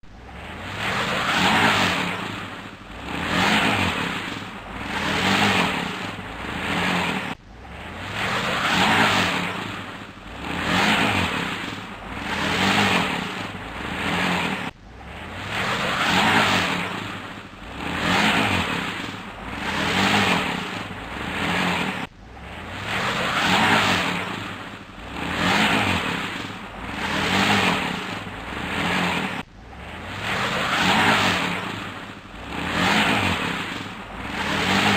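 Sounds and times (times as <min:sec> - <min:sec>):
truck engine revving: 0:00.0 - 0:34.9
wheels spinning in mud: 0:00.1 - 0:34.9.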